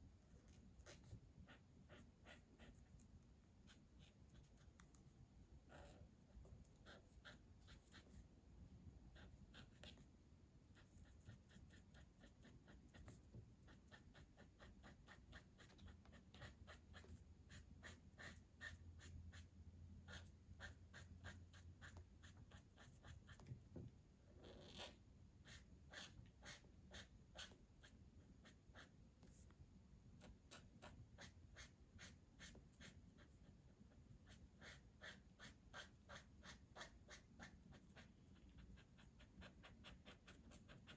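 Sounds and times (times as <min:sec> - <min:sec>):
coloring tool scratching paper: 0:00.8 - 0:03.0, 0:03.6 - 0:05.0, 0:05.7 - 0:08.2, 0:09.1 - 0:10.1, 0:10.7 - 0:23.5, 0:24.6 - 0:29.4, 0:30.2 - 0:40.9.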